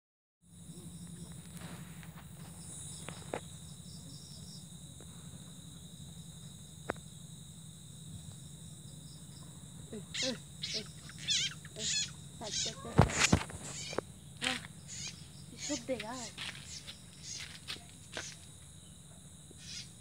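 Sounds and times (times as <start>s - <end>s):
night insects trilling: 0.5s - 20.0s.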